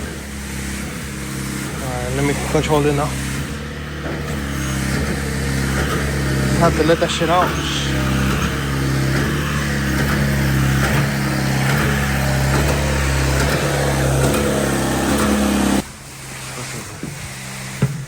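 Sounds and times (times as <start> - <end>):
pump engine running: 0.0 - 18.0.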